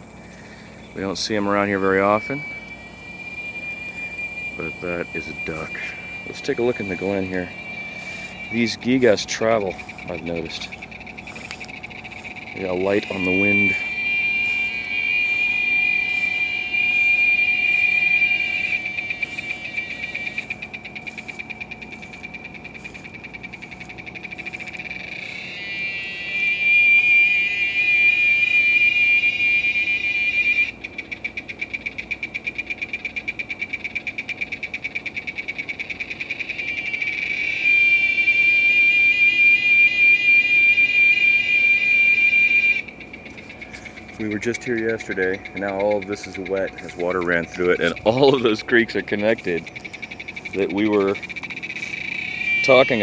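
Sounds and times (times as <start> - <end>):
cicada singing: 0.0 - 53.0.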